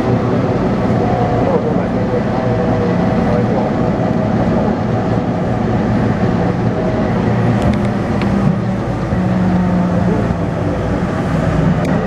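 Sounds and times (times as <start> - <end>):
inverter and motor hum: 0.0 - 12.0
train rail rumble: 0.0 - 12.0.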